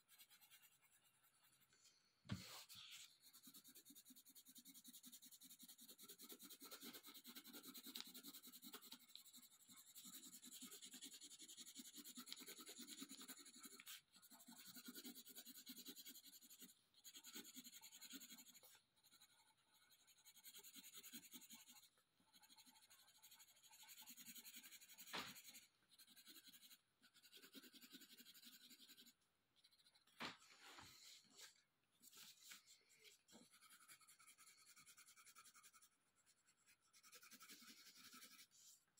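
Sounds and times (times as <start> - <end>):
pencil scratching on paper: 0.0 - 30.2, 30.8 - 38.9.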